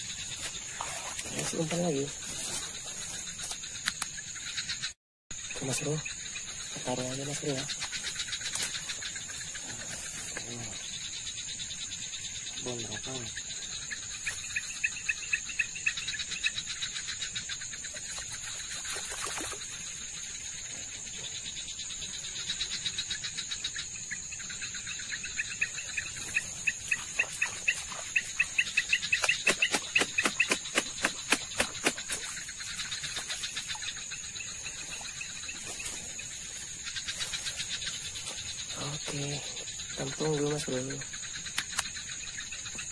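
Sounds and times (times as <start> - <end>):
crickets chirring: 0.0 - 42.9
pulsed chirping: 0.0 - 42.9.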